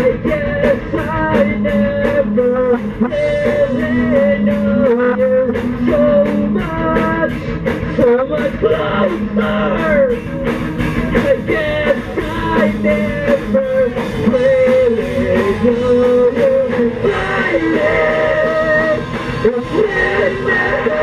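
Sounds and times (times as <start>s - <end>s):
live rock band playing: 0.0s - 21.0s
person singing: 0.0s - 21.0s.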